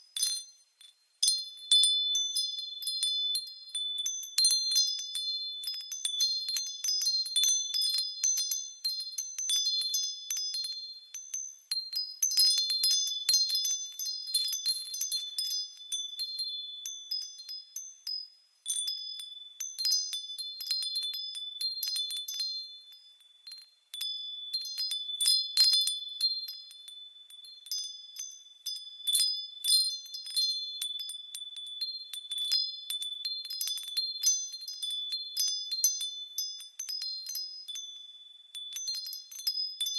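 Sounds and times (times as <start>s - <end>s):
high-pitched wind chimes ringing: 0.0s - 39.9s.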